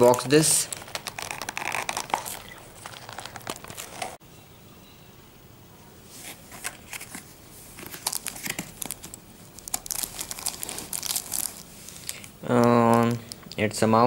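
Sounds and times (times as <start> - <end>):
plastic and cardboard crinkling: 0.0 - 4.2, 6.1 - 13.6.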